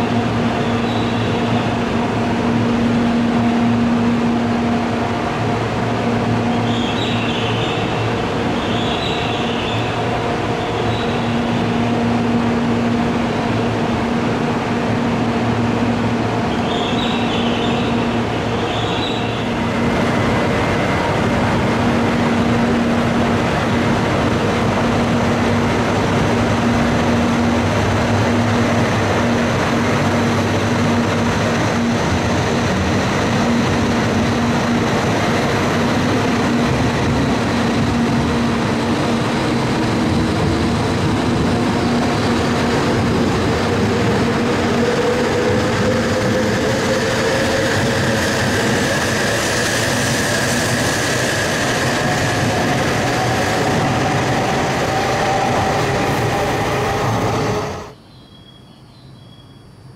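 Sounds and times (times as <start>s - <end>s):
train cars rolling past: 0.0s - 58.0s.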